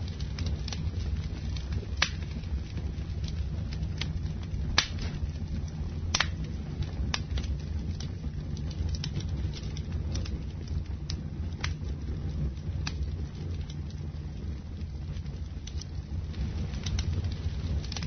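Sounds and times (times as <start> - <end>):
fire low rumble: 0.0 - 18.0
wood crackling and popping: 0.0 - 18.0.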